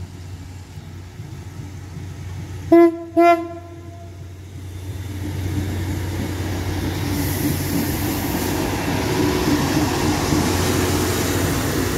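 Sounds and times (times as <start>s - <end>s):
railcar engine droning: 0.0s - 11.9s
wheels rumbling on rails: 0.0s - 11.9s.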